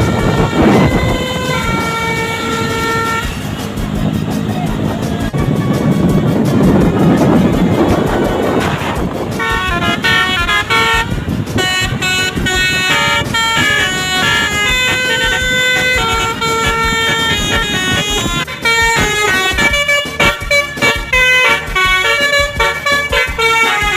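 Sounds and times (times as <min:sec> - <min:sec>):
bus musical horn tune: 0:00.0 - 0:23.9
noisy rumble: 0:00.0 - 0:23.9.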